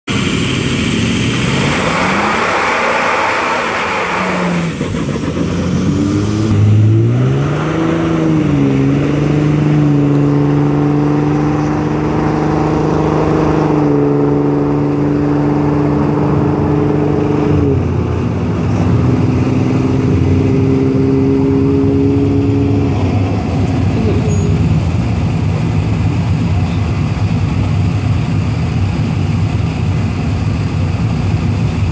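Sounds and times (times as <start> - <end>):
diesel trucks accelerating: 0.1 - 31.9.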